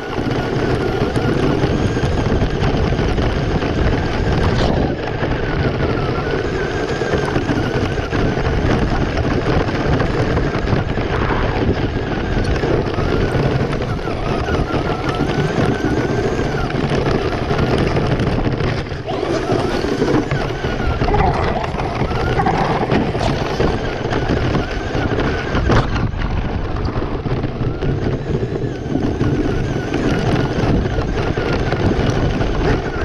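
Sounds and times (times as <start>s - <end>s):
toy truck motor whine: 0.0s - 33.0s
tyre and wind noise: 0.0s - 33.0s.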